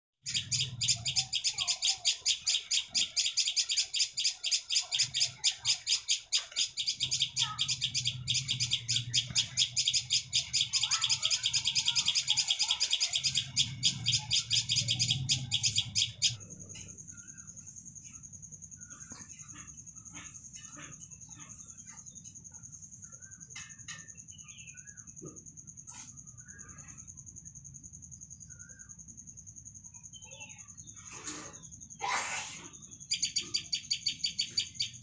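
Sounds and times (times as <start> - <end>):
nestlings chirping: 0.2 - 35.0.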